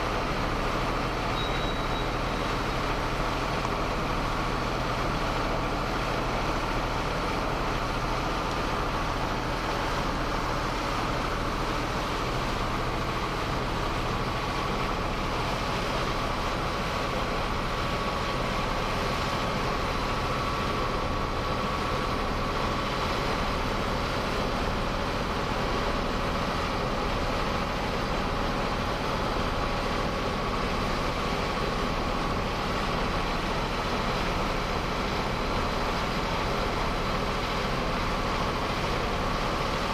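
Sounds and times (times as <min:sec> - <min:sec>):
boat engine droning: 0:00.0 - 0:39.9
faint steady whine: 0:00.0 - 0:39.9.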